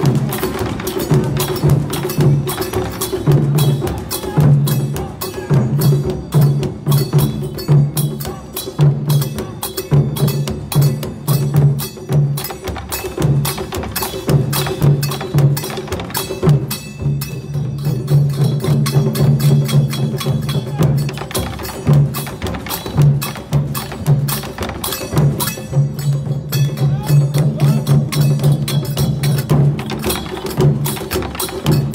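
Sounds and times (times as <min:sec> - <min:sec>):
music with percussive beat: 0:00.0 - 0:31.9.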